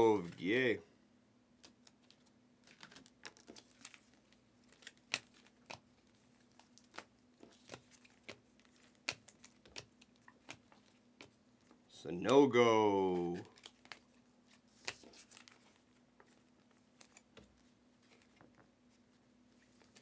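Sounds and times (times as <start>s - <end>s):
trading cards flipping: 1.6s - 11.8s, 12.9s - 18.6s, 19.6s - 20.0s.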